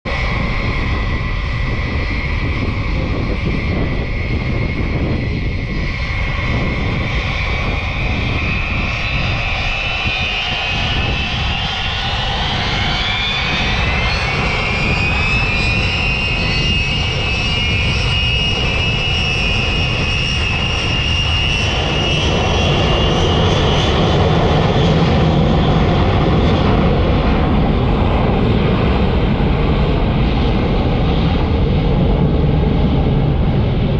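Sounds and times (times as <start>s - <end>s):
jet engines spooling up: 0.1s - 33.9s.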